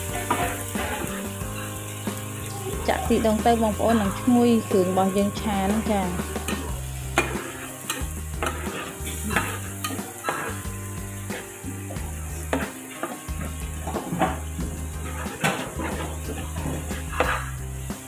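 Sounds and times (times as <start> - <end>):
metal spatula scraping wok: 0.0 - 18.0
sauce sizzling: 0.0 - 18.0
soft background music: 0.0 - 18.0.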